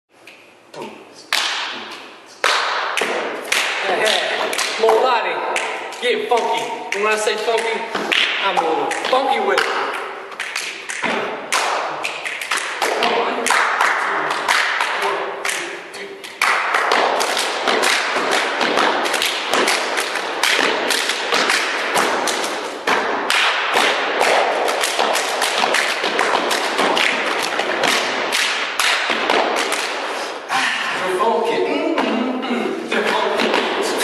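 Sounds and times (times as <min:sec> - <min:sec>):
hand claps and body slaps: 0:00.2 - 0:30.4, 0:33.0 - 0:34.0.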